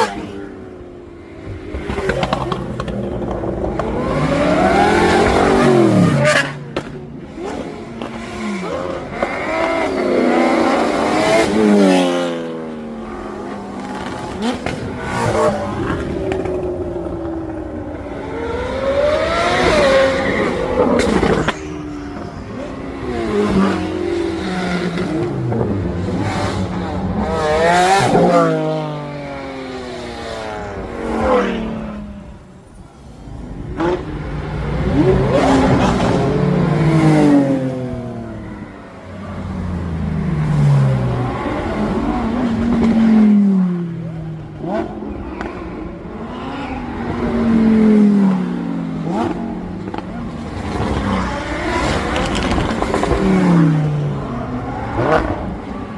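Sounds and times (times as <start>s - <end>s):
cars accelerating past: 0.0s - 32.4s, 33.0s - 55.9s.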